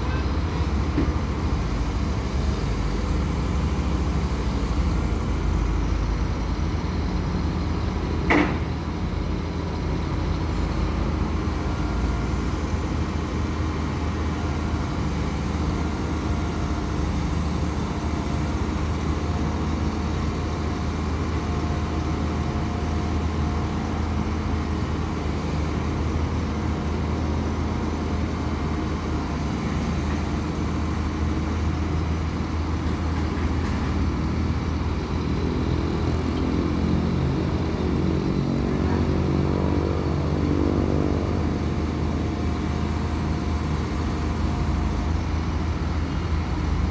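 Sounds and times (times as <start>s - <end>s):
excavator diesel engines droning: 0.0s - 46.9s.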